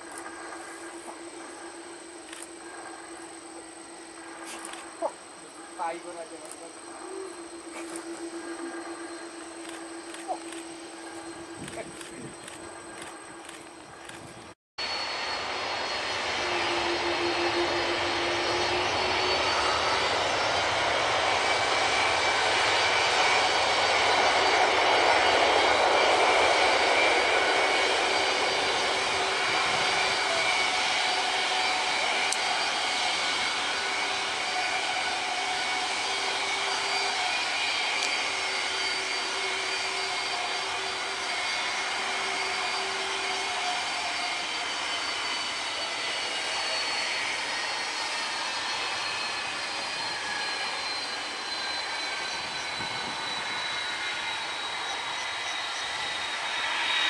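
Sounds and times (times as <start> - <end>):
high jet engine whine: 0.0 - 57.0
jet engines running: 0.0 - 57.0.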